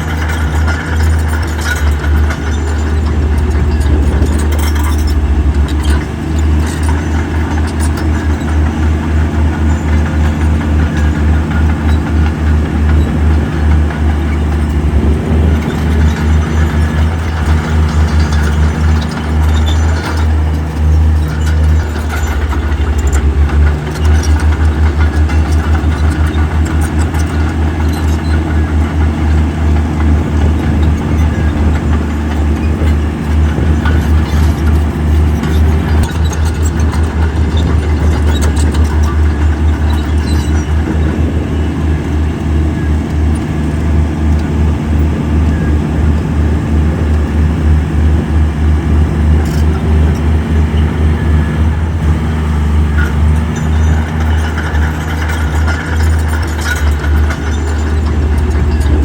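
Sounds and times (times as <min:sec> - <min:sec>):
heavy diesel engine throbbing: 0:00.0 - 0:59.0.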